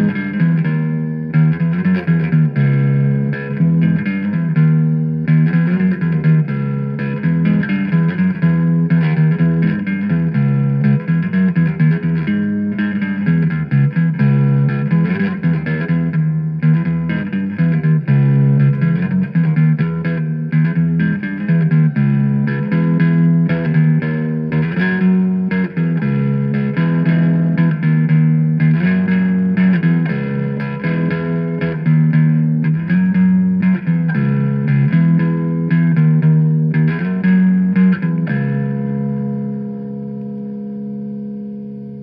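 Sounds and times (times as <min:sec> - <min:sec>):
guitar music with bass: 0:00.0 - 0:42.0.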